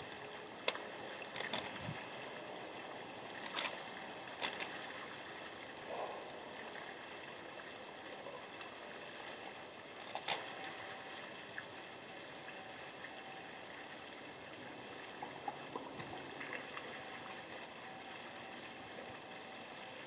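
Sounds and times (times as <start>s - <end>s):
microphone hiss: 0.0s - 20.0s.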